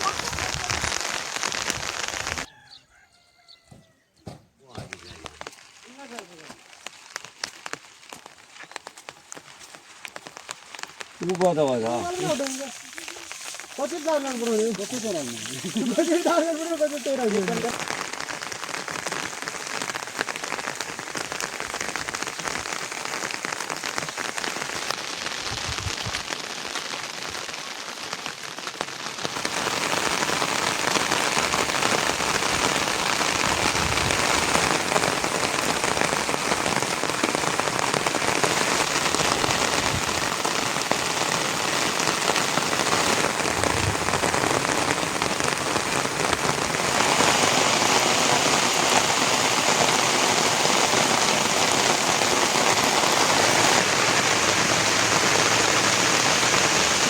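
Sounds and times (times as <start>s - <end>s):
steady rain falling: 0.0s - 3.0s, 4.8s - 57.0s.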